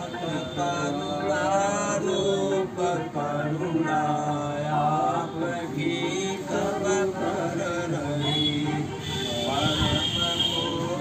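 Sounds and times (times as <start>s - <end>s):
voices chanting melodically: 0.0s - 11.0s.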